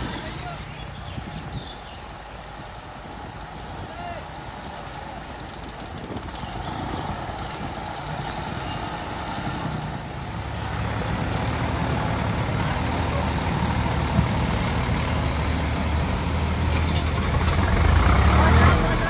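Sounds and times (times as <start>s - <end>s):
tractor engines under load: 0.0s - 19.0s.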